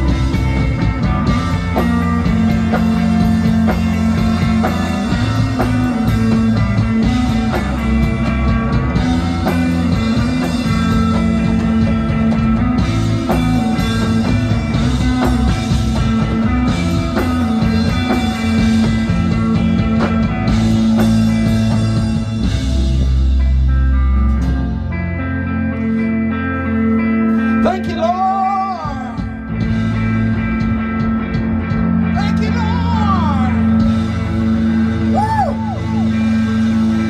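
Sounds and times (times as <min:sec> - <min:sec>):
drum kit: 0:00.0 - 0:25.1, 0:27.7 - 0:37.0
bass guitar: 0:00.0 - 0:37.0
electric guitar: 0:00.0 - 0:37.0.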